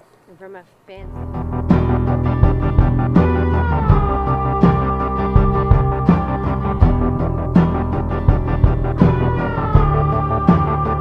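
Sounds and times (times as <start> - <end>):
deep drum hits: 1.0 - 11.0
sustained synthesizer chords: 1.0 - 11.0.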